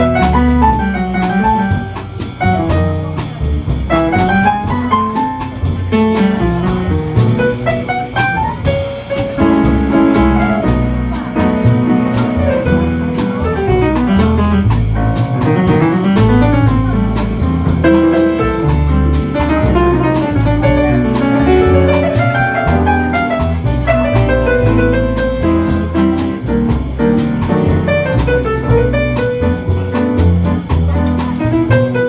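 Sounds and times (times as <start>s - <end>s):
bass notes: 0.0s - 32.0s
drum kit beat: 0.0s - 32.0s
jazz band playing: 0.0s - 32.0s
piano runs: 0.0s - 32.0s.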